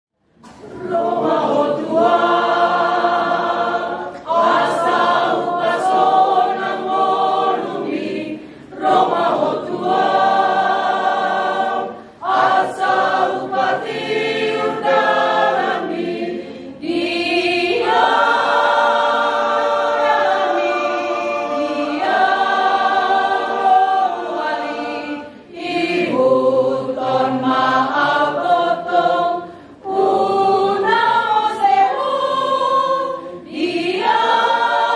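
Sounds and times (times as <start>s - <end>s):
mixed choir singing a hymn: 0.4s - 34.9s.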